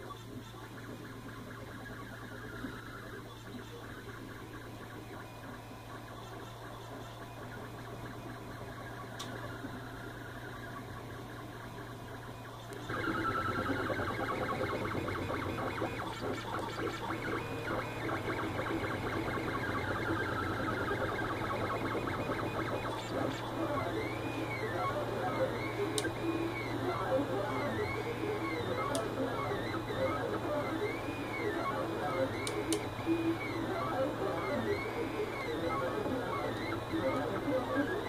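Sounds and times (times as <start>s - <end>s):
steady low hum: 0.0s - 38.0s
stepper motors buzzing and whining: 0.9s - 38.0s.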